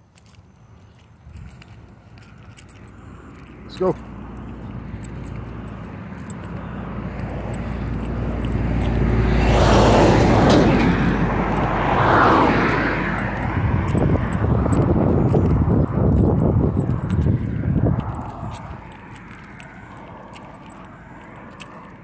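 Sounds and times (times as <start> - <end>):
rustling and clinking: 0.0 - 9.2, 13.2 - 22.0
vehicle passing on road: 0.0 - 22.0.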